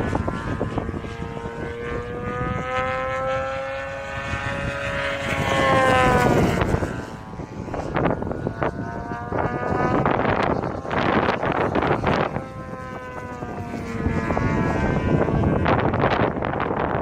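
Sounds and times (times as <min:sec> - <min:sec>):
model plane engine in flight: 0:00.0 - 0:17.0
wind noise on microphone: 0:00.0 - 0:17.0.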